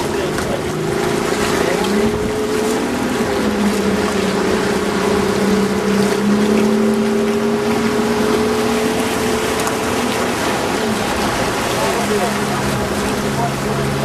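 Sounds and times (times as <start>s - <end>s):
boat engine running: 0.0s - 14.0s
water rushing past hull: 0.0s - 14.0s
wind: 0.0s - 14.0s.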